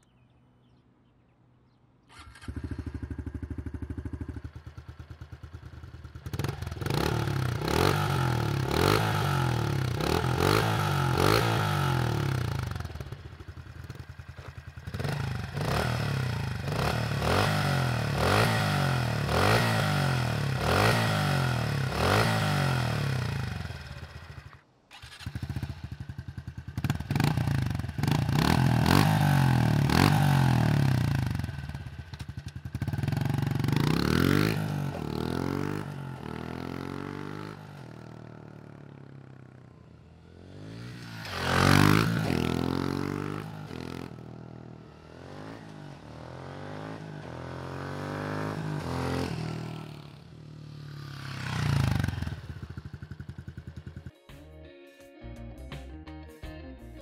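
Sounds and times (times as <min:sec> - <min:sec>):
motorcycle engine revving: 0:02.1 - 0:54.1
motorcycle pulling away: 0:02.1 - 0:54.1.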